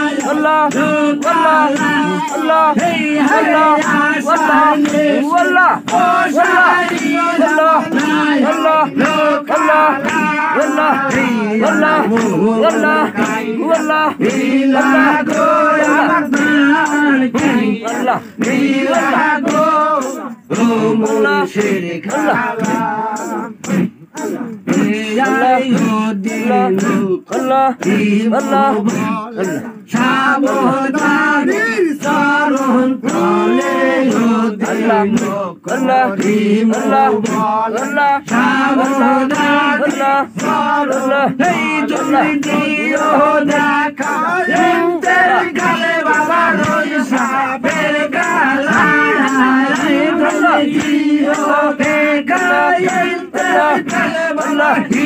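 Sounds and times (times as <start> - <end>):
group of men singing: 0.0 - 55.0
hand clapping: 0.0 - 55.0
man singing into a microphone: 0.0 - 55.0.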